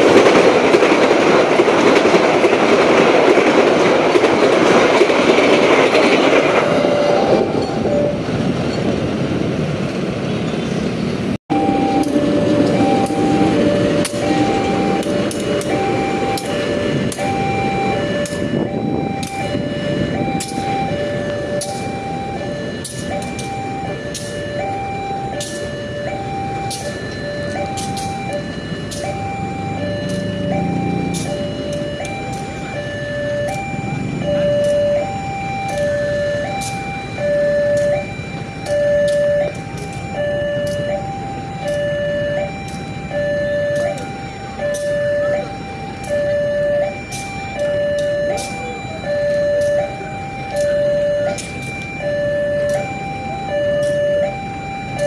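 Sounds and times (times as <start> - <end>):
two-tone level-crossing alarm: 0.0 - 8.8, 11.5 - 55.0.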